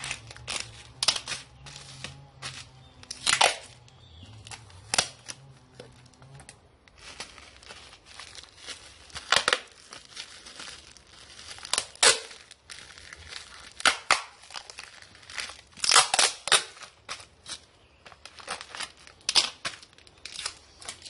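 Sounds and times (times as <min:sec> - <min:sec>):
packaging crinkling and tearing: 0:00.0 - 0:21.0.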